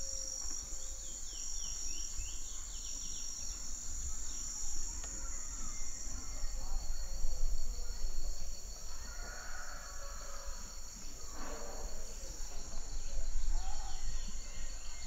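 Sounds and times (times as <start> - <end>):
faint insect calls: 0.0 - 15.0
insect chorus drone: 0.0 - 15.0.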